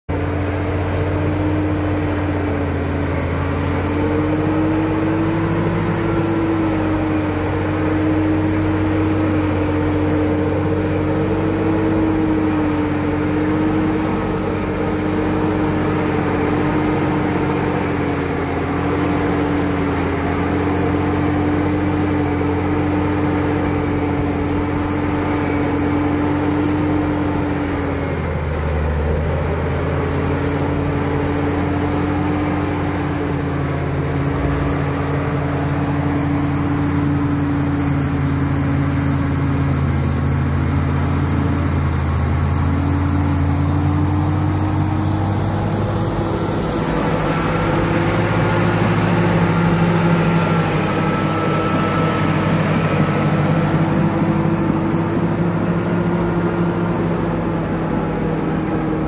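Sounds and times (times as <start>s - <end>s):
bulldozer diesel engine running: 0.1s - 59.0s.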